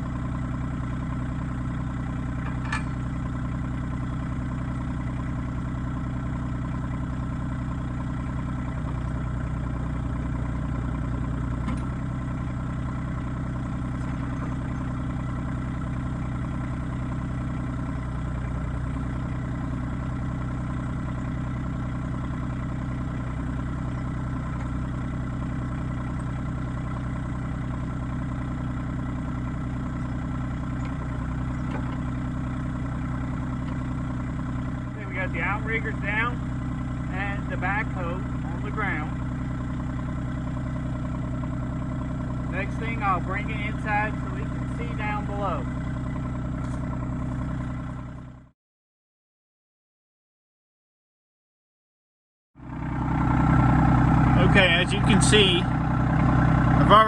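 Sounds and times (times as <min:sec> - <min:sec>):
tractor engine running: 0:00.0 - 0:48.5, 0:52.6 - 0:57.0.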